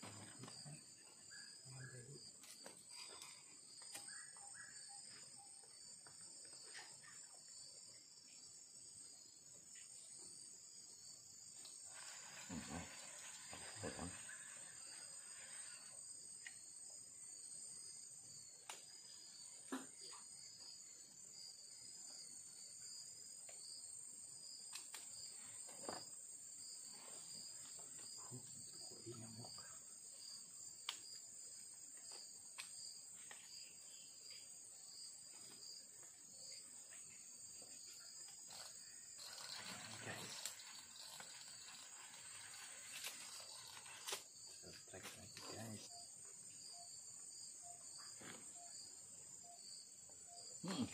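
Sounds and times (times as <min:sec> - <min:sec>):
high-pitched insect chorus: 0:00.0 - 0:50.9.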